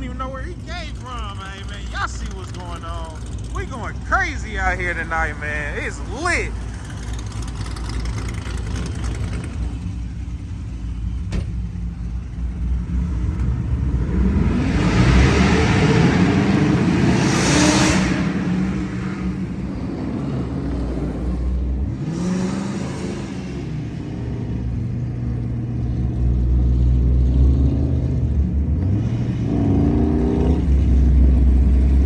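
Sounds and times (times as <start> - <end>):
car exhaust rumbling and revving: 0.0 - 32.0.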